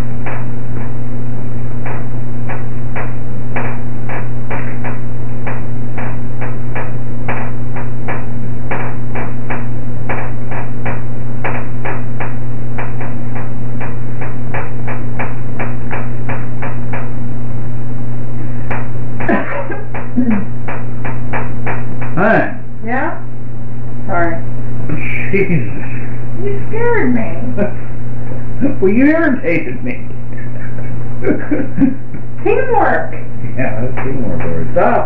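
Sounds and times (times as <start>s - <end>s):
loud steady low hum: 0.0s - 35.0s.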